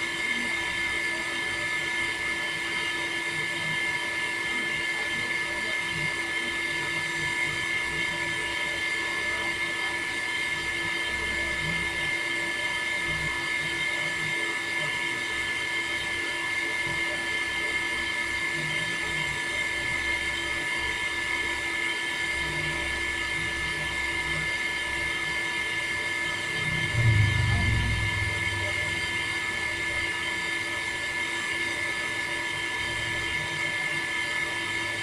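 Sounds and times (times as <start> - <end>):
electric water pump whine: 0.0 - 35.0.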